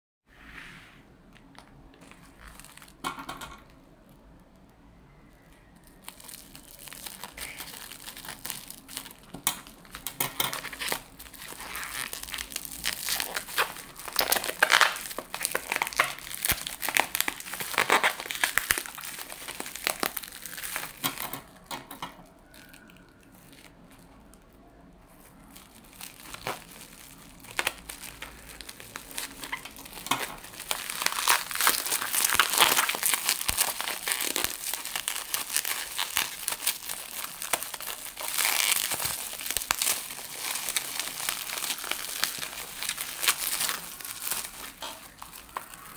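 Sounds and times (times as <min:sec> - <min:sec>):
bubble wrap crinkling: 0:02.0 - 0:45.9.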